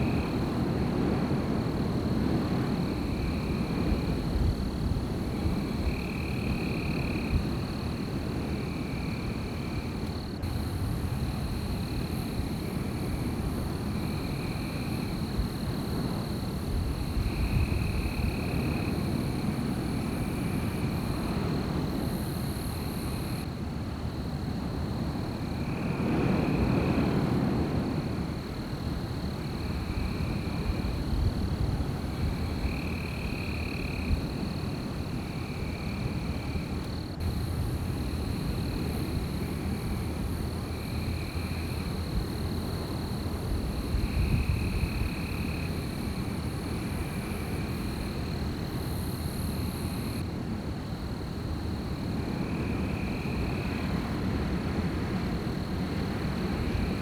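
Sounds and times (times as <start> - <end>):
wind rushing through forest: 0.0 - 57.0.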